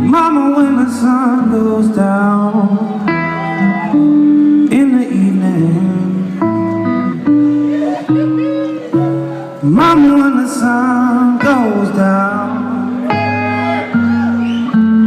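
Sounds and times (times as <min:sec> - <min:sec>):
blues guitar with vibrato: 0:00.0 - 0:15.0.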